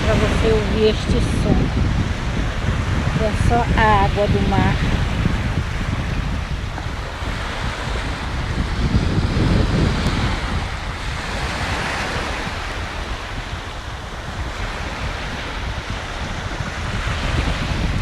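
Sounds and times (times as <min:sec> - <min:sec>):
sea water washing onto beach: 0:00.0 - 0:18.0
wind buffeting microphone: 0:00.0 - 0:18.0.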